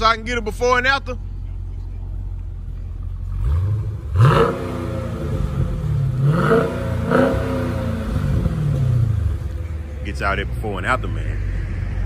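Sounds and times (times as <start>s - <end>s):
car engine revving: 2.1s - 12.0s.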